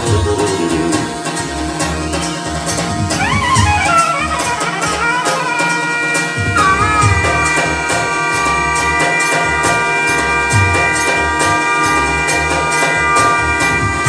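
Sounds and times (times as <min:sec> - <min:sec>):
brassy keyboard lead: 0:00.0 - 0:14.0
steady drum beat: 0:00.0 - 0:14.0.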